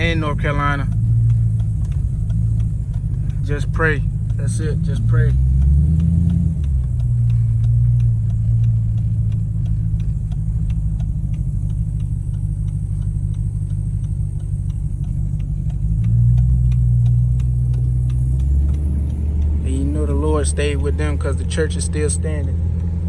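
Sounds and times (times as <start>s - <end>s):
car engine and road noise: 0.0s - 23.0s
fast regular ticking: 0.0s - 23.0s.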